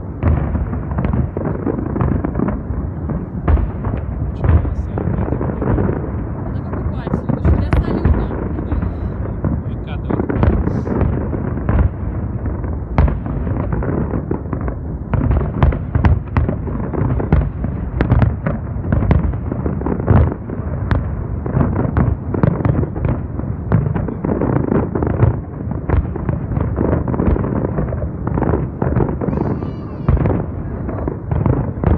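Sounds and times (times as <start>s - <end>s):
fireworks bangs: 0.0s - 31.9s
low rumble of bursts: 0.0s - 31.9s.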